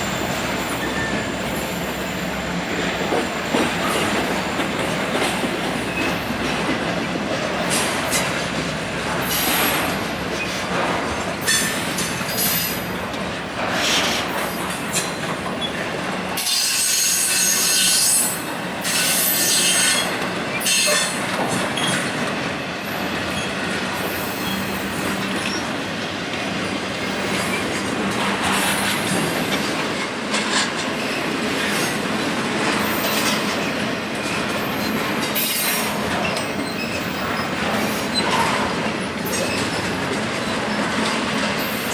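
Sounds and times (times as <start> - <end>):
freight train cars rolling: 0.0 - 41.9.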